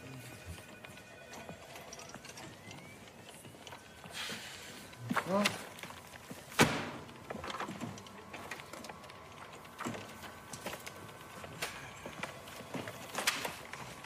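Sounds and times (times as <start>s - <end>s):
papers and folders handled: 2.2s - 14.0s.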